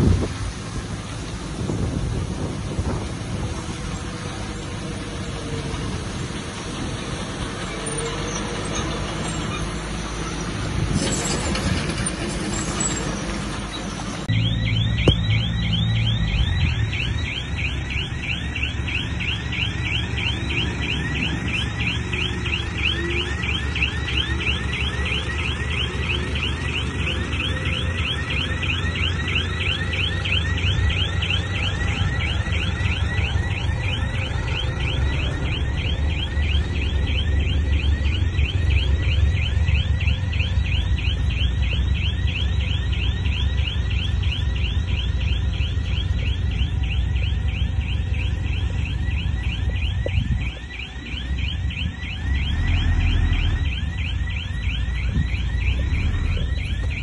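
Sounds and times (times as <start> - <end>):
bulldozer engine rumbling: 0.0 - 57.0.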